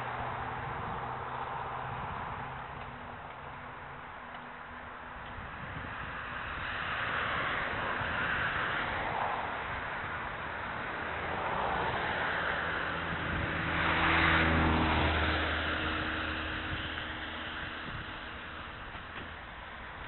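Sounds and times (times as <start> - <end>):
vehicle passing by: 0.0 - 18.9
wind noise on microphone: 0.0 - 20.0.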